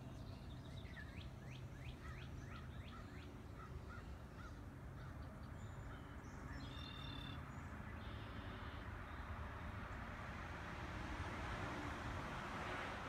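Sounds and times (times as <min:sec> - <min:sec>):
faint outdoor background rumble: 0:00.0 - 0:13.0.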